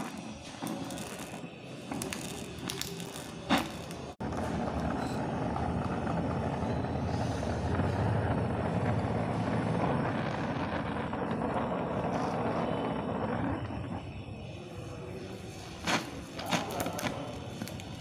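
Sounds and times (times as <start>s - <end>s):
welding torch flame rushing: 0.0s - 18.0s.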